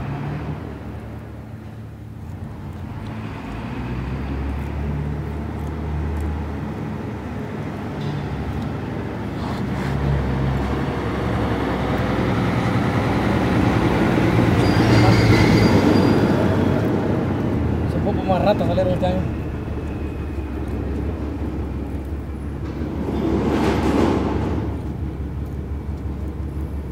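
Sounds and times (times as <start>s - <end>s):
truck engine rumbling: 0.0s - 26.9s.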